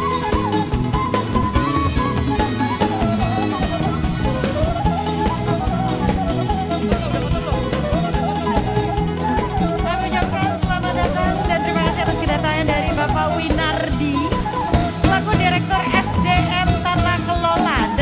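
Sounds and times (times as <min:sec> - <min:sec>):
high wavering melody: 0:00.0 - 0:17.4
drum kit beat: 0:00.0 - 0:18.0.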